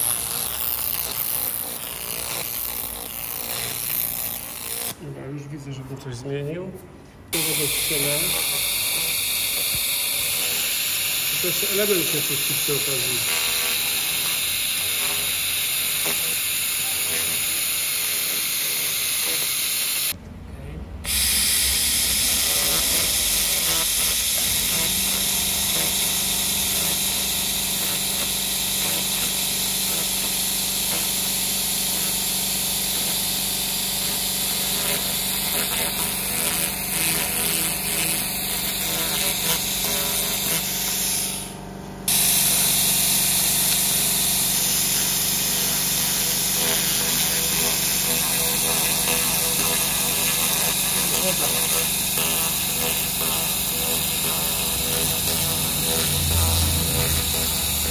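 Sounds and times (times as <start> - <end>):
laser cleaner hissing: 7.3 - 20.2, 21.0 - 57.9.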